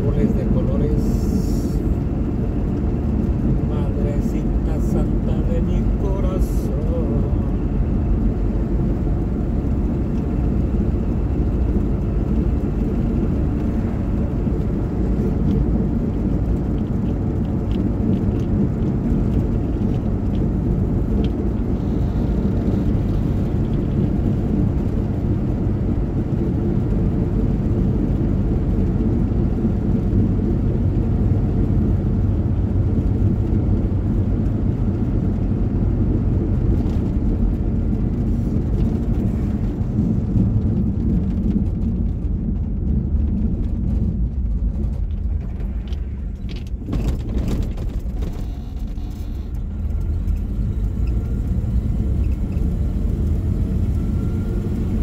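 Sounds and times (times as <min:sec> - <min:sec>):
car tyres and engine rumble: 0:00.0 - 0:55.0.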